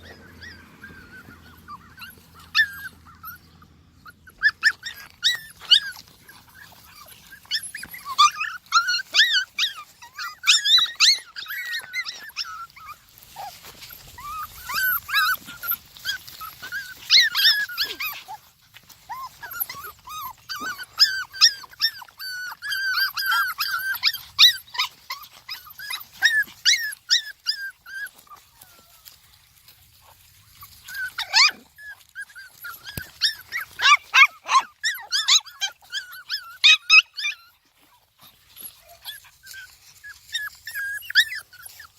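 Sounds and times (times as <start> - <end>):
puppies whimpering and squeaking: 0.0 - 41.9.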